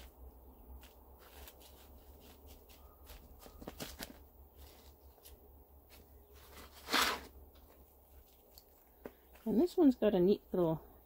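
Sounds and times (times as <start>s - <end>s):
hands pressing potting soil: 0.0s - 9.8s.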